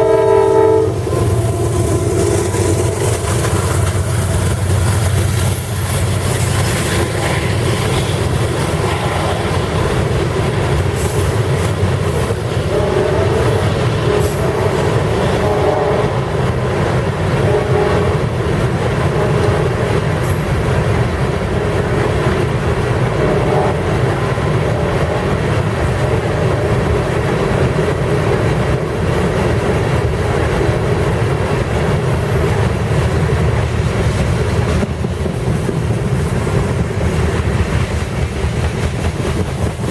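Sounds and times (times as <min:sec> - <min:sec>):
train cars rumbling past: 0:00.0 - 0:39.9
steel wheels clacking on rail joints: 0:01.0 - 0:39.9.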